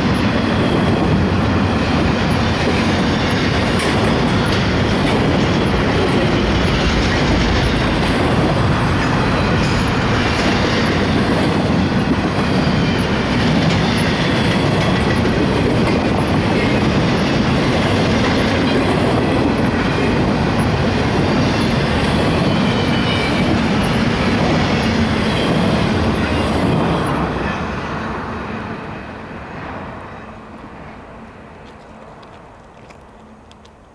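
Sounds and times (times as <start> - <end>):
train wheels clattering on rail: 0.0 - 28.6.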